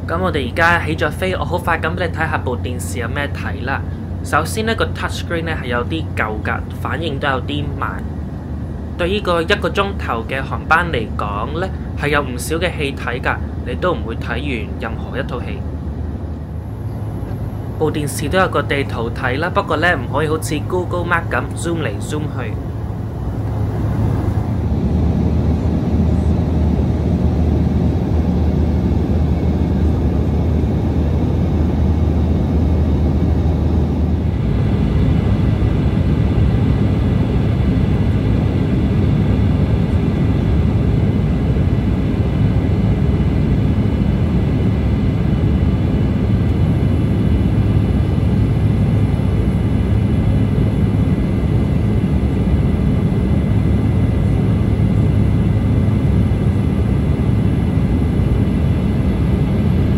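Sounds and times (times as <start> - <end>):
airliner cabin engine noise: 0.0 - 59.9
faint high whines: 0.0 - 59.9
low hum: 0.0 - 59.9.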